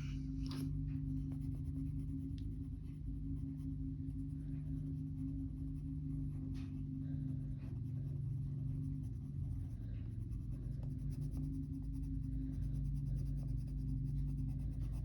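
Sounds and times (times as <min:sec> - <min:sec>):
colored pencil scratching on paper: 0:00.0 - 0:15.0
steady low hum: 0:00.0 - 0:15.0.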